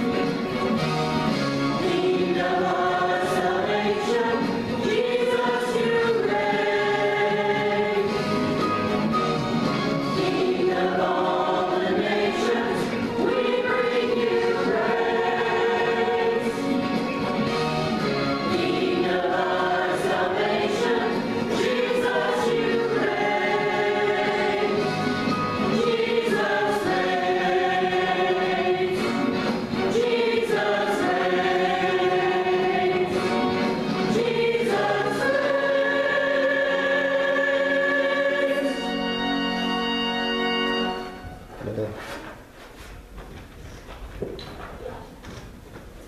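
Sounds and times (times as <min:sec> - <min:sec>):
choir singing a worship song: 0:01.6 - 0:08.6, 0:09.5 - 0:39.9.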